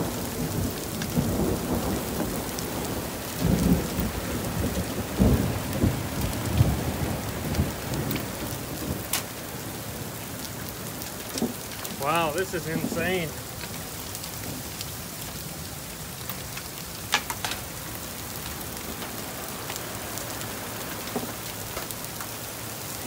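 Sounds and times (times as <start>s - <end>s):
hail clattering: 0.0s - 9.5s, 11.0s - 13.9s, 16.2s - 22.4s.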